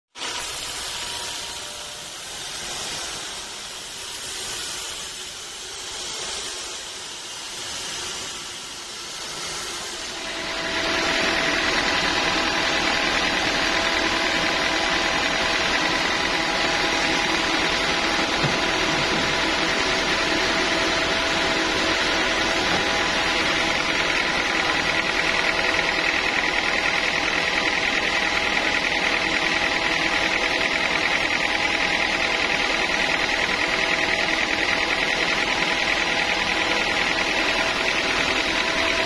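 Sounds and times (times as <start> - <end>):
band sawmill machinery running: 0.2 - 39.0.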